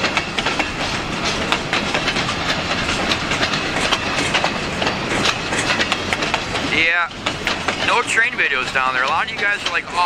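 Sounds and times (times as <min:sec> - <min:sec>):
train wheels clattering over rail joints: 0:00.0 - 0:10.0.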